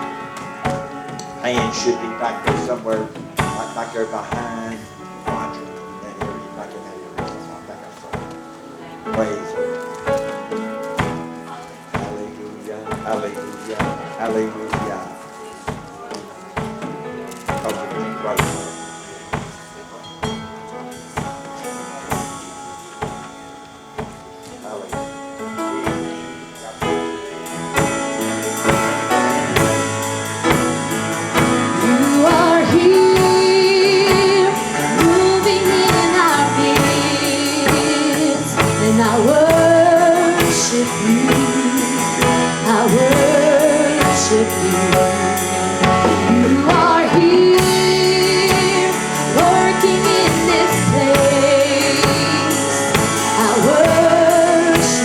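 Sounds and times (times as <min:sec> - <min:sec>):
band playing sustained chords: 0:00.0 - 0:55.0
person singing with vibrato: 0:00.0 - 0:55.0.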